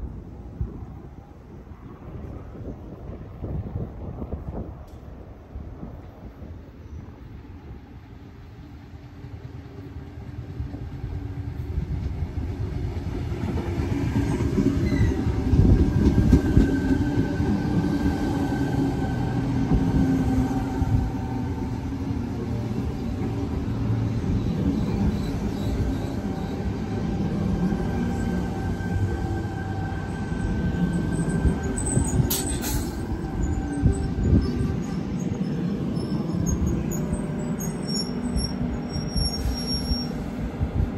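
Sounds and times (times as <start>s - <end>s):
train wheel and track rumble: 0.0s - 40.9s.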